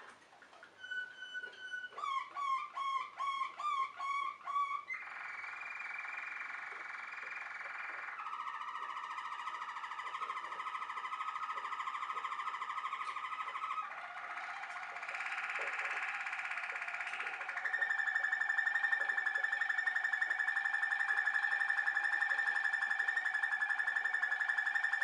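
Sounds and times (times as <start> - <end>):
canary singing: 0.7 - 25.0.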